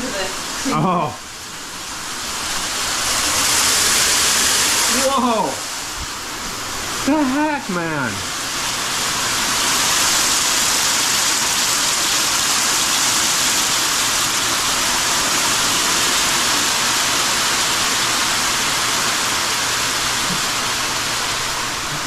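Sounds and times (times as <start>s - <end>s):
heavy rain and hail: 2.4s - 22.0s.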